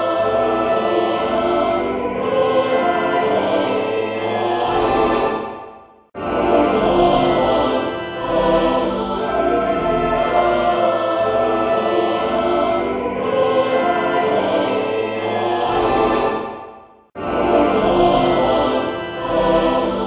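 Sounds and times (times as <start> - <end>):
chorus singing with music: 0.0 - 20.0.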